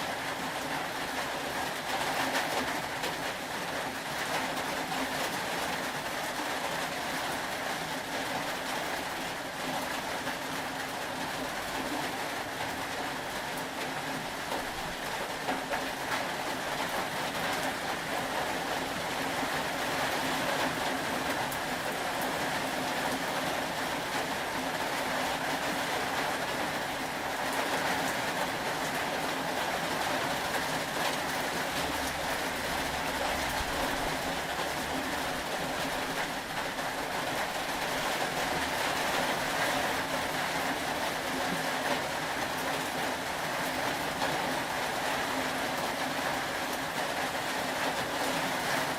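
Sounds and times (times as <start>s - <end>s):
rain falling hiss: 0.0s - 48.9s.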